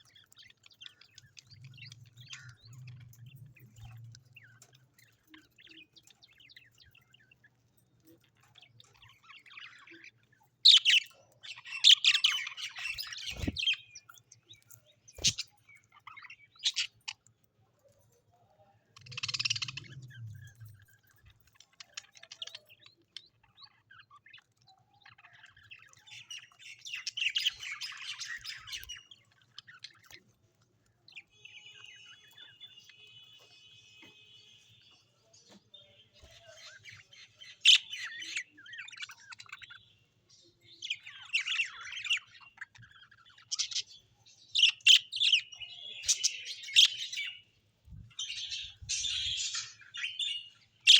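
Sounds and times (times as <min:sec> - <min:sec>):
birds chirping and squawking: 0:00.0 - 0:50.9.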